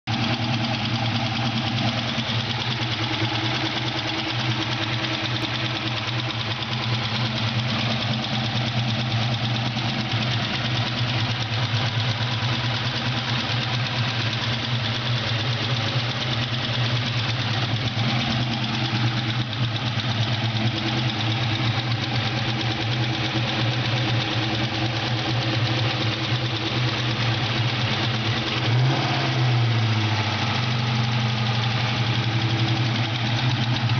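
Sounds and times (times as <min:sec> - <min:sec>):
car engine idling: 0:00.0 - 0:33.9
engine ticking: 0:00.1 - 0:33.9.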